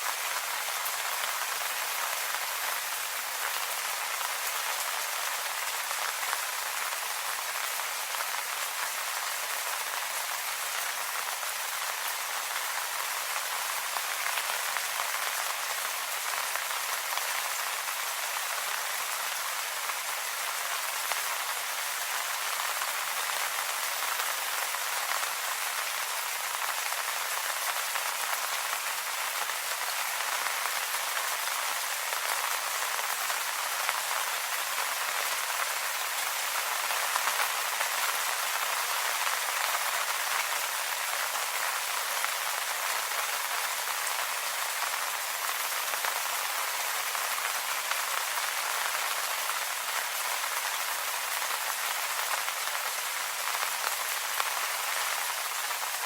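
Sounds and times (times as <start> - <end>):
light rain pattering on leaves: 0.0 - 56.0.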